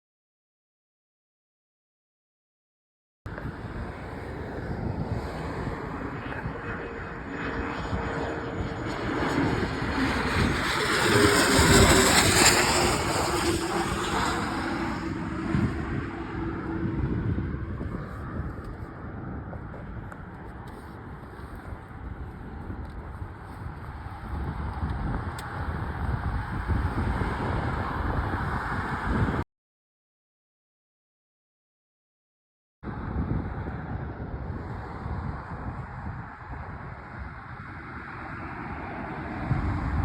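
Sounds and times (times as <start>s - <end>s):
airliner engine noise passing: 3.3s - 29.4s, 32.9s - 40.0s.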